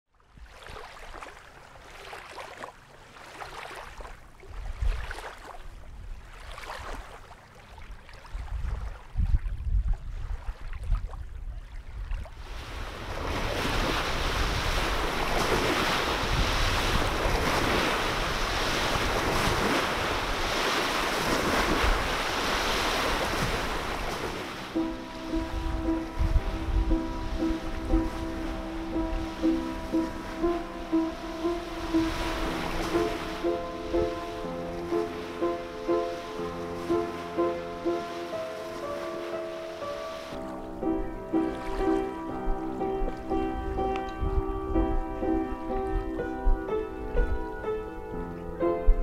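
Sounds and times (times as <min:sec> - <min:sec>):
waves washing in: 0:00.4 - 0:09.4, 0:12.2 - 0:47.6
wind rumbling on microphone: 0:04.2 - 0:07.2, 0:07.9 - 0:49.0.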